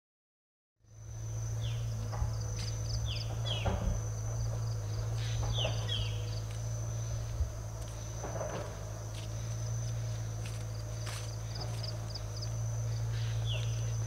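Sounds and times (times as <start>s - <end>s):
insects buzzing and chirping: 0.8s - 14.0s
steady low hum: 0.8s - 14.0s
falling bird calls: 1.5s - 14.0s.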